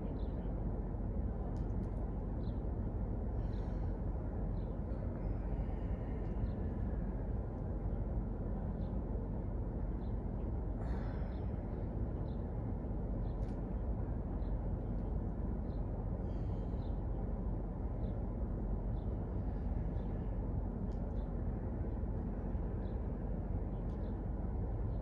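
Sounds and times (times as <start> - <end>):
low room rumble: 0.0 - 25.0.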